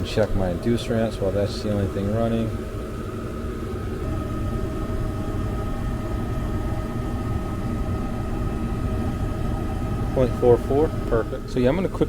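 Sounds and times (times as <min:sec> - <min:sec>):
furnace motor hum: 0:00.0 - 0:12.0
high motor whine: 0:00.0 - 0:12.0.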